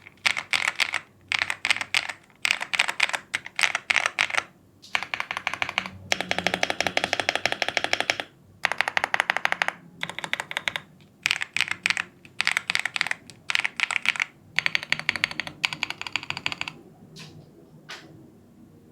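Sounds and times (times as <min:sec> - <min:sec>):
mechanical keyboard typing: 0:00.0 - 0:16.8.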